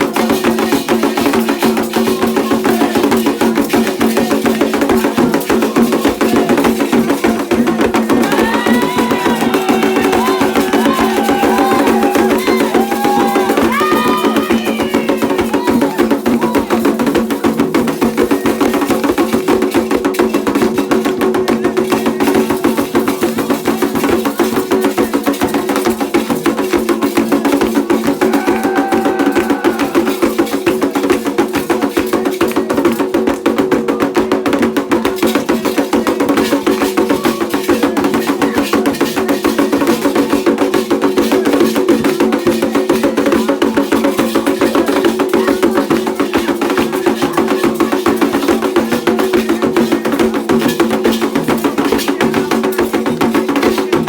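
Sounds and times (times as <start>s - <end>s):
fast drum strokes: 0.0s - 54.0s.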